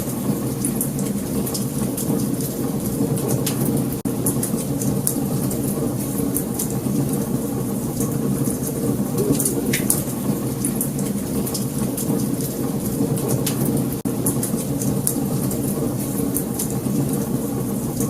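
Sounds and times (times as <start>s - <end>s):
wood fire rumbling: 0.2s - 18.0s.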